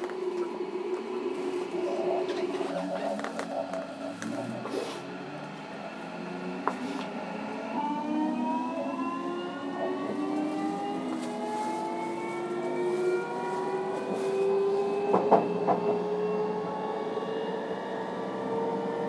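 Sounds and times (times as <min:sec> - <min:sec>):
train traction motors whining: 0:00.0 - 0:16.9.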